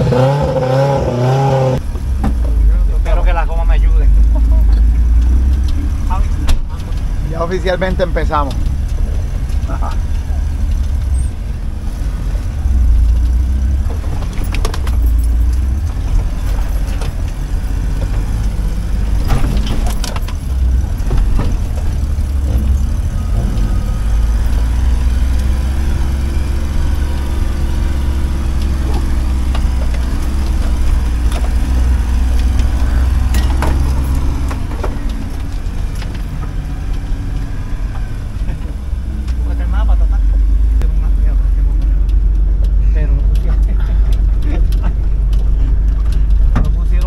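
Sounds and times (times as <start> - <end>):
engine rumbling: 0.0 - 47.0
car body clunks and rattles: 1.8 - 47.0.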